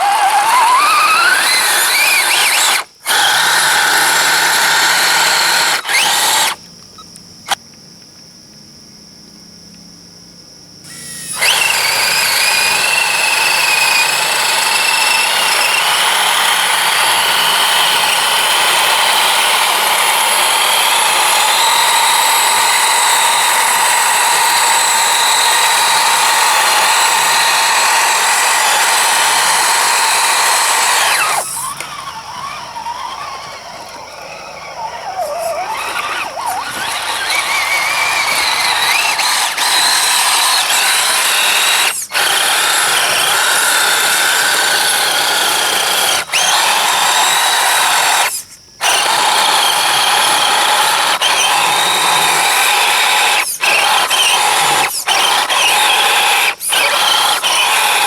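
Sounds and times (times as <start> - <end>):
toy truck electric motor whining: 0.0 - 7.6, 10.9 - 58.0.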